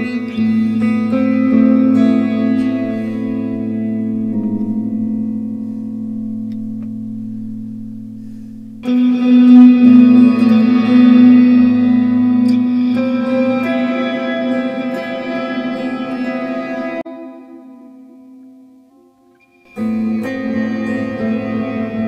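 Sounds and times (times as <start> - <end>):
electric guitar chords with reverb: 0.0 - 22.0.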